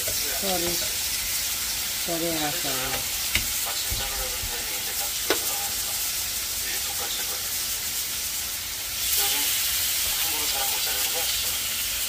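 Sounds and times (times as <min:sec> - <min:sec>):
meat sizzling on a grill pan: 0:00.0 - 0:12.0.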